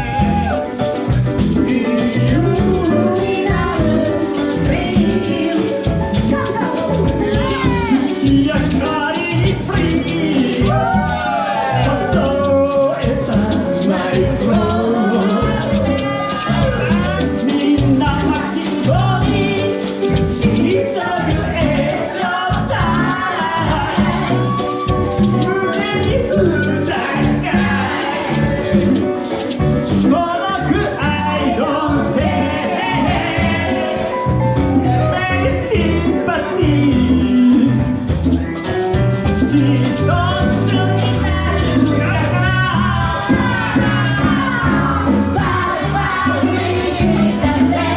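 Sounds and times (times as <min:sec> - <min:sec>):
latin percussion beat: 0:00.0 - 0:47.9
live salsa band playing: 0:00.0 - 0:47.9
person singing lead vocal: 0:00.0 - 0:47.9.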